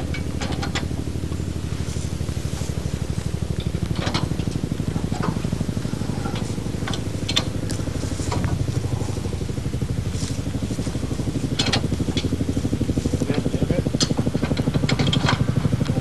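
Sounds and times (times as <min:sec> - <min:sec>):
forklift engine idling: 0:00.0 - 0:16.0.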